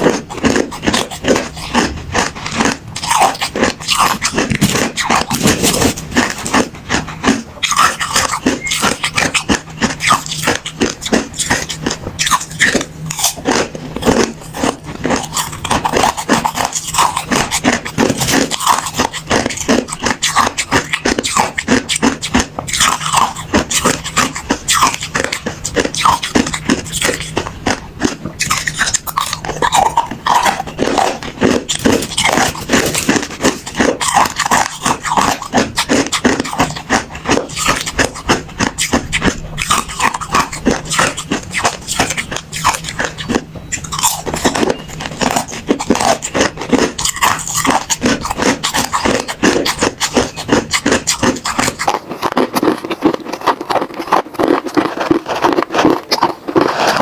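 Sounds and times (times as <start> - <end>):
ice cubes crunching: 0.0 - 57.0.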